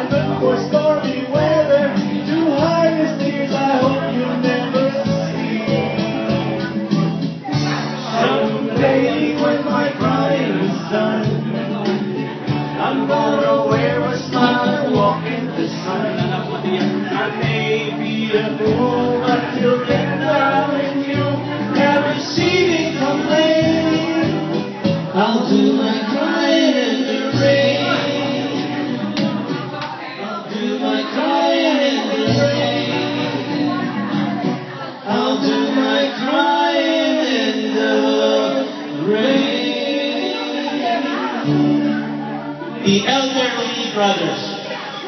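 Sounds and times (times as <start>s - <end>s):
man singing into a microphone: 0.0s - 45.0s
pop backing track: 0.0s - 45.0s.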